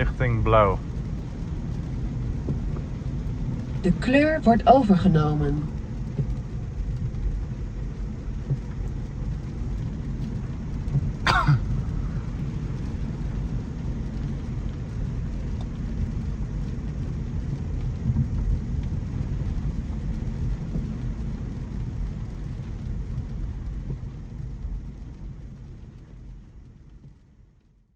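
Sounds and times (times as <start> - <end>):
road and tyre rumble: 0.0 - 27.2
rain on a car: 0.0 - 27.9.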